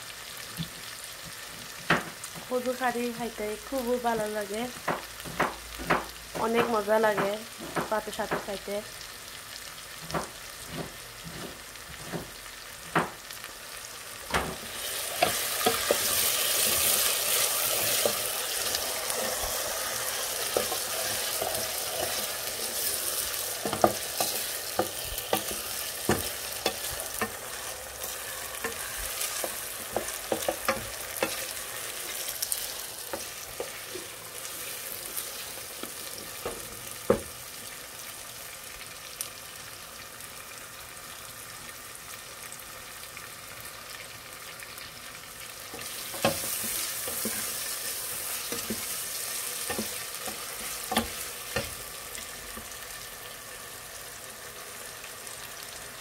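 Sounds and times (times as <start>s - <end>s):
onions sizzling in oil: 0.0s - 56.0s.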